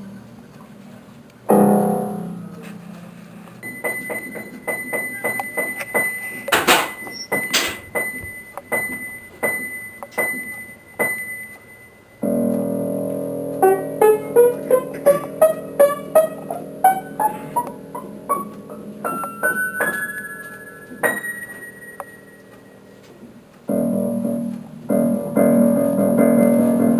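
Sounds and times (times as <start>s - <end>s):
piano music: 1.4s - 23.0s, 23.7s - 26.9s.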